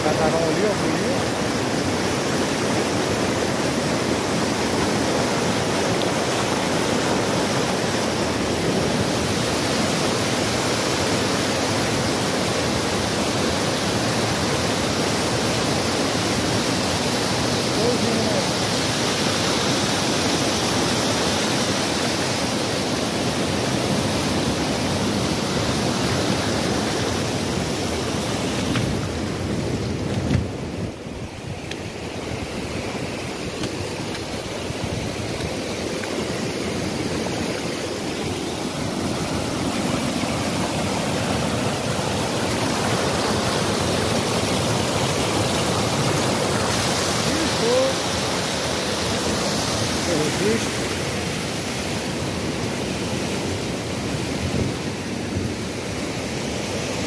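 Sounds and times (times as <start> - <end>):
river rapids rushing over rocks: 0.0 - 57.0.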